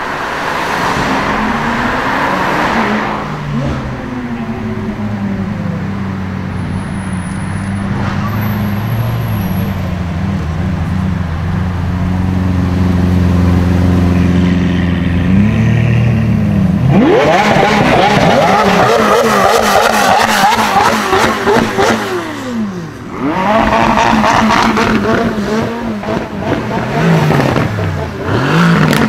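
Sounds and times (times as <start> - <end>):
sports car revving and accelerating: 0.0 - 29.0.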